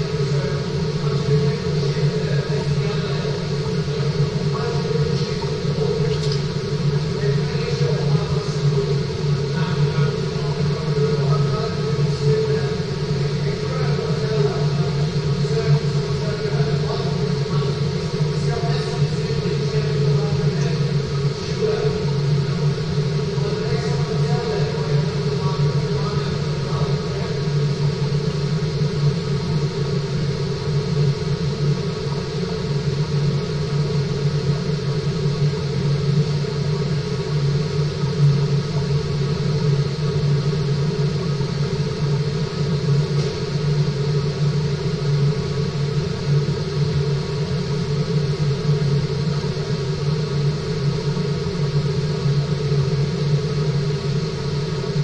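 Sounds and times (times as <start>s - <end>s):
faint steady tones: 0.0s - 55.0s
steady low hum: 0.0s - 55.0s.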